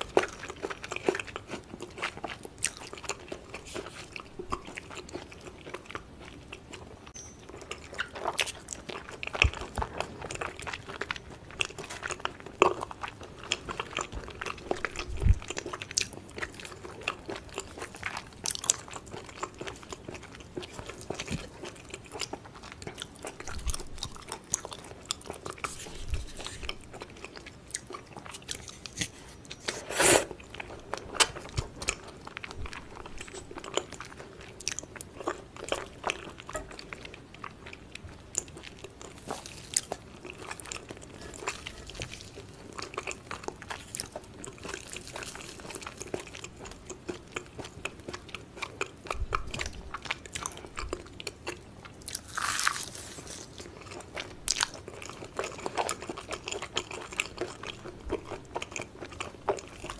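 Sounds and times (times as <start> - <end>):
sharp chewing crunch: 0.0 - 59.9.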